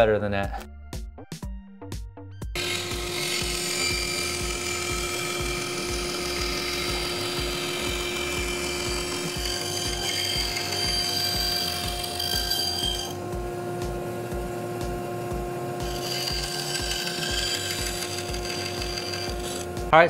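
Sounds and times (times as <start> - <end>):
bandsaw cutting wood: 2.6 - 19.9
motor hum: 2.6 - 20.0.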